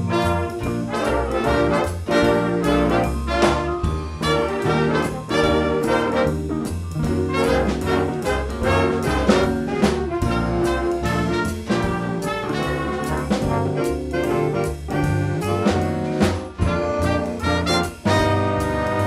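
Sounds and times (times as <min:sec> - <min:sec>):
jazz horns playing: 0:00.0 - 0:19.0
steady drum beat: 0:00.0 - 0:19.0.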